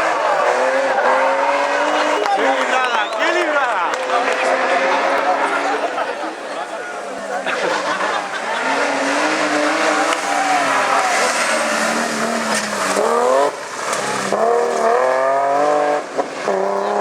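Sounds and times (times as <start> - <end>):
car engine revving hard: 0.0 - 3.4, 4.0 - 5.9, 7.6 - 17.0
tyre and road noise: 0.0 - 17.0.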